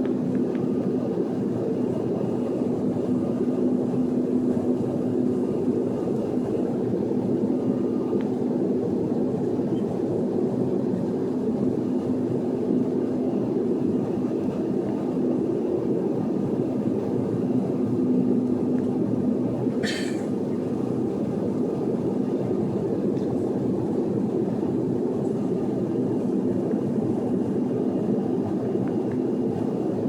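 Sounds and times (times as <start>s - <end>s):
airliner turbofan roar: 0.0s - 30.0s.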